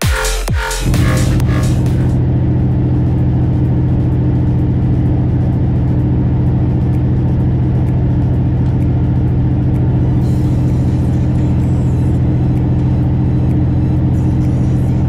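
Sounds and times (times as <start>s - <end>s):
diesel truck engine under load: 0.9s - 15.0s.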